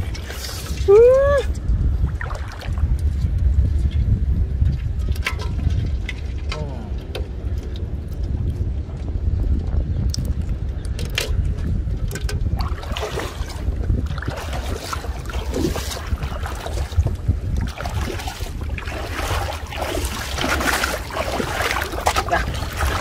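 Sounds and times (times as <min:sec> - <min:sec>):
water sloshing and splashing: 0:00.0 - 0:04.0, 0:04.6 - 0:09.2, 0:10.2 - 0:23.0
wind rumbling on microphone: 0:00.0 - 0:23.0.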